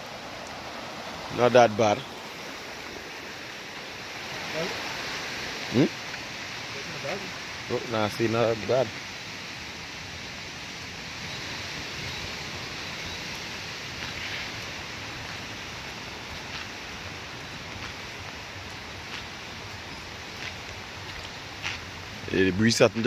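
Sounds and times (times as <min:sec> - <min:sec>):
wind and rain rushing: 0:00.0 - 0:23.0.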